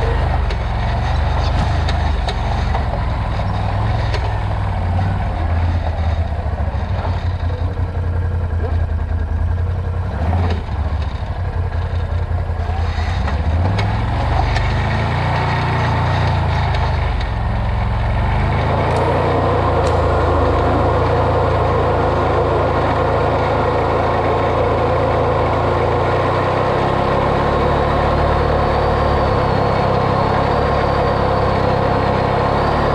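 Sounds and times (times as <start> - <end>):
vehicle engine running: 0.0 - 32.9.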